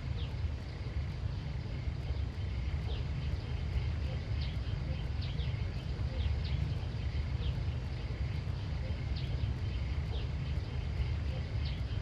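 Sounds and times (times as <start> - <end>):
steady low rumble: 0.0 - 12.0
bird chirps: 2.0 - 12.0.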